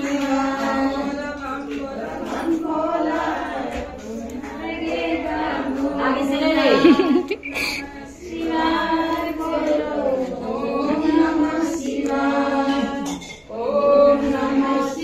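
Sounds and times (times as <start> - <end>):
women singing a hymn together: 0.0 - 15.0.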